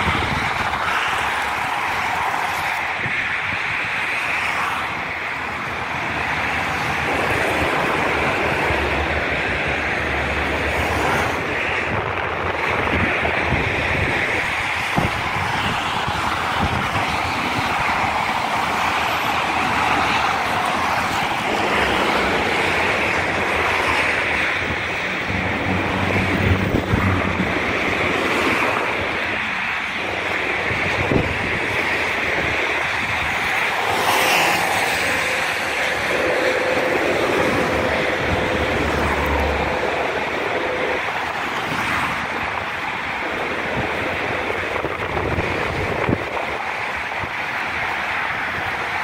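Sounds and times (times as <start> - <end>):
cars passing on road: 0.0 - 49.0
wind buffeting microphone: 0.0 - 49.0.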